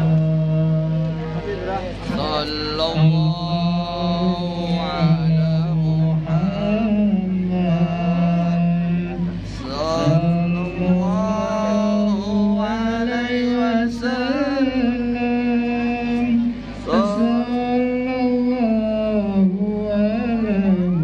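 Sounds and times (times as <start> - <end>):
person singing devotional chant: 0.0 - 1.4, 2.1 - 21.0.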